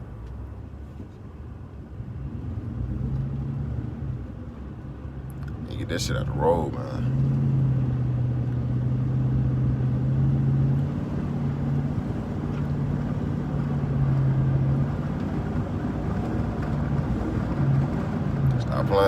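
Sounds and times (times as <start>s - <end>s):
truck engine and exhaust: 0.0s - 19.0s.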